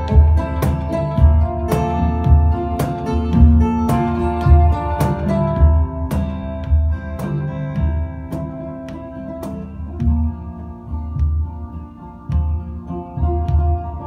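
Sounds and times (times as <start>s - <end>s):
acoustic guitars and mandolin picking: 0.0s - 14.0s
cajon beat: 0.0s - 14.0s.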